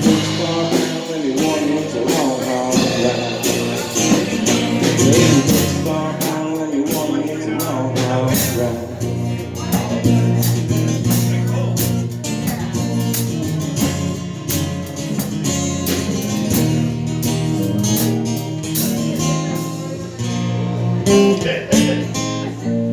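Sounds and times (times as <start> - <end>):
live band guitar playing: 0.0 - 22.9
steady drum beat: 0.0 - 22.9.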